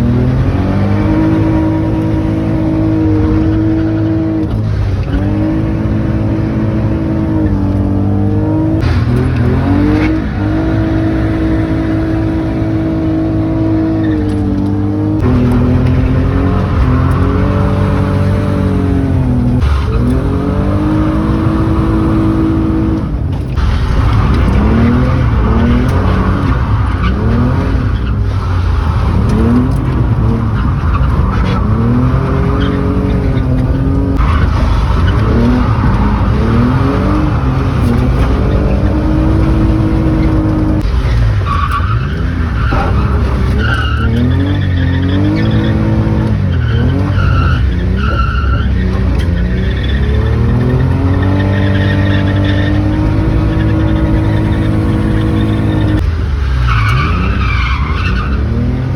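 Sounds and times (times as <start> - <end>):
car engine revving hard: 0.0 - 58.9
tyres squealing: 0.0 - 58.9.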